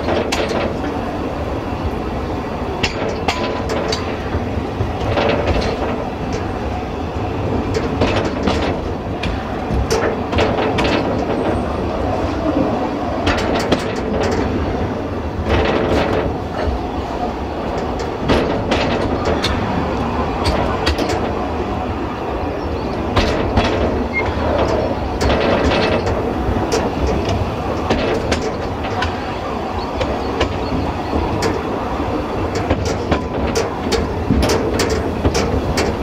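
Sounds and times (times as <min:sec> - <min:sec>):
train rumbling on track: 0:00.0 - 0:36.0
wheels knocking over rail joints: 0:00.0 - 0:36.0.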